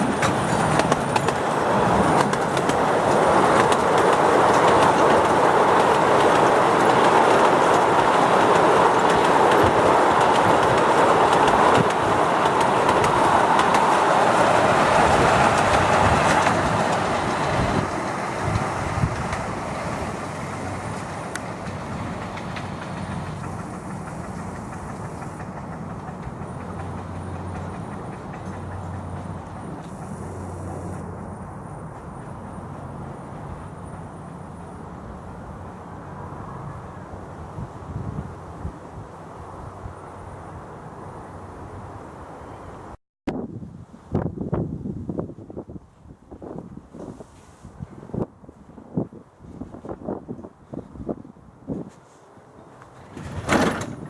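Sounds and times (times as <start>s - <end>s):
miniature train rumbling on rails: 0.0s - 41.2s, 51.7s - 54.0s.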